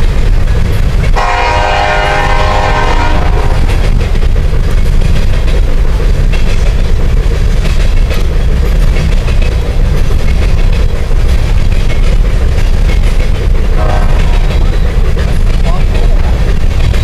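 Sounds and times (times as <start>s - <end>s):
train rumbling across bridge: 0.0s - 17.0s
wheel clacks: 3.3s - 17.0s.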